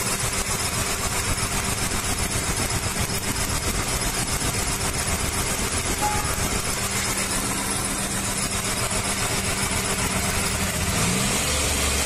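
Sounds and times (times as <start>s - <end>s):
misfiring car engine idling: 0.0s - 12.0s.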